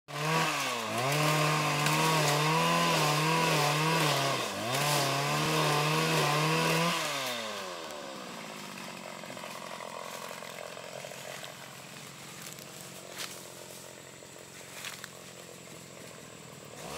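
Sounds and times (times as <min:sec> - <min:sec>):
motorized pole pruner running: 0:00.1 - 0:16.9.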